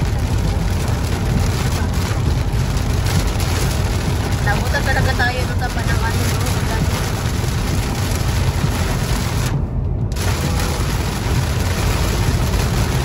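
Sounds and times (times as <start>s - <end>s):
heavy rain on a car: 0.0s - 13.0s
road and wind rumble: 0.0s - 13.0s.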